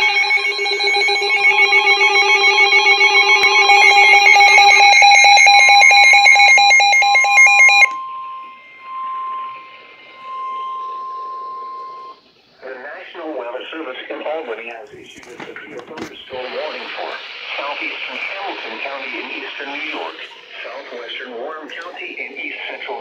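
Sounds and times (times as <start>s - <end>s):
fast-pulsing alarm beeps: 0.0s - 12.2s, 16.4s - 23.0s
steady alarm tone from radio: 0.0s - 13.4s, 16.3s - 23.0s.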